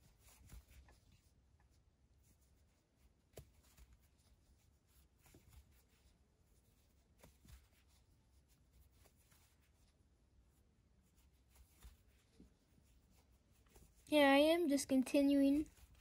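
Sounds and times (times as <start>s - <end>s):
soft yarn rustling: 0.0s - 16.0s.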